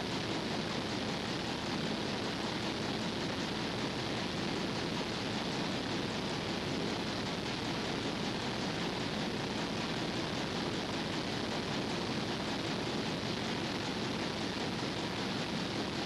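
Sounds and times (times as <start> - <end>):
tape hiss: 0.0 - 16.0.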